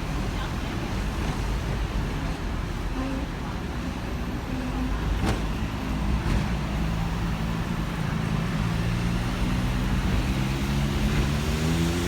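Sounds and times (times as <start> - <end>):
electric tram running: 0.0 - 12.0.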